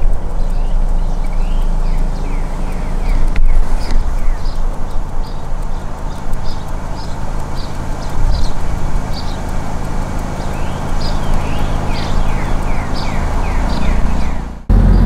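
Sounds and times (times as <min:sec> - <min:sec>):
bird chirping: 0:00.0 - 0:15.0
car engine and road noise: 0:00.0 - 0:15.0
sliding bird notes: 0:00.0 - 0:15.0.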